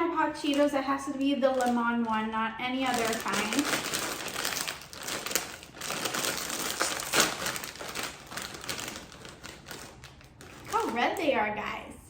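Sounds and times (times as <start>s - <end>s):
snack bag crinkling: 0.3s - 11.4s.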